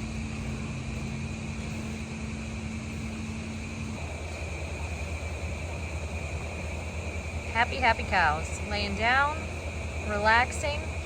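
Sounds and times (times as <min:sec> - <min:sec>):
barn machinery humming: 0:00.0 - 0:11.0
humming tone: 0:00.0 - 0:11.0.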